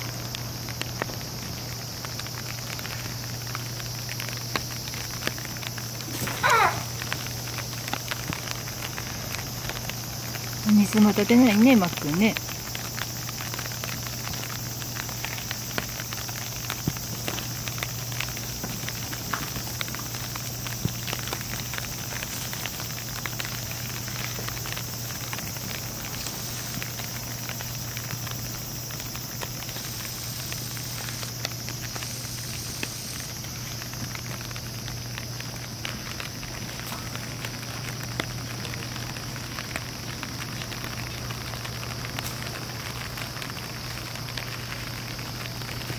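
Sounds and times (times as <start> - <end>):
faint crackles and ticks: 0.0 - 45.9
high insect drone: 0.0 - 45.9.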